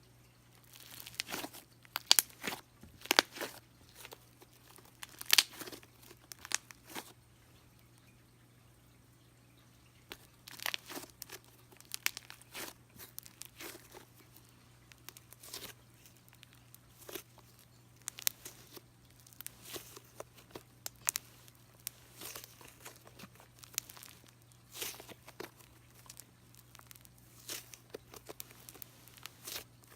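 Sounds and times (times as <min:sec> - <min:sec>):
slime squished by hand: 0:00.6 - 0:07.2, 0:10.1 - 0:14.3, 0:14.9 - 0:29.9.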